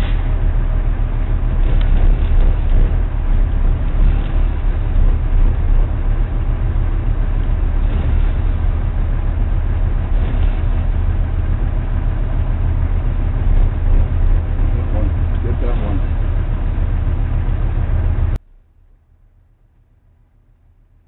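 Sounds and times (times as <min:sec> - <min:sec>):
boat engine droning: 0:00.0 - 0:18.4.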